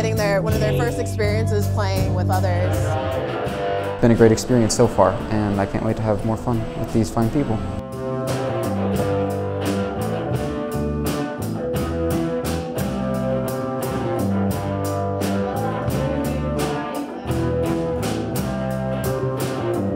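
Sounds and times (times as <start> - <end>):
drums with steady beat: 0.0 - 7.1, 7.8 - 19.9
electric guitar: 0.0 - 19.9.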